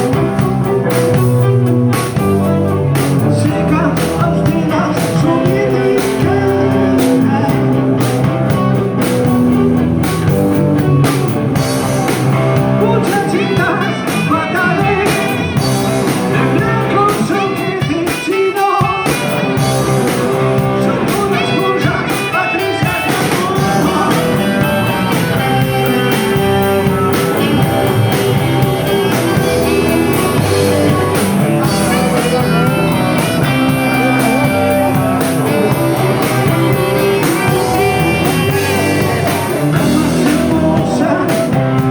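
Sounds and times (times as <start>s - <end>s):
drums: 0.0s - 41.9s
electric guitar: 0.0s - 41.9s
person singing: 2.8s - 8.6s, 12.6s - 41.9s.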